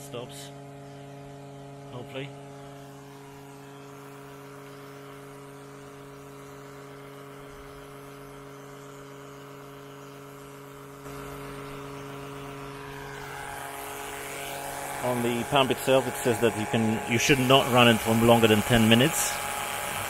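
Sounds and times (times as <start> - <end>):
electric pump humming: 0.0 - 20.0.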